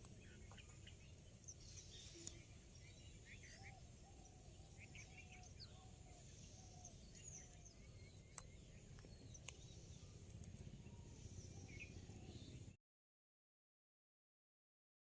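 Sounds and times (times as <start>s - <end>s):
faint bird chirps: 0.0s - 12.8s.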